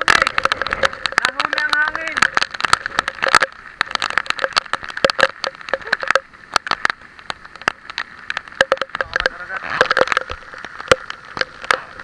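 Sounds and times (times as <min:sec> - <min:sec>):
heavy rain hitting camera: 0:00.0 - 0:12.0.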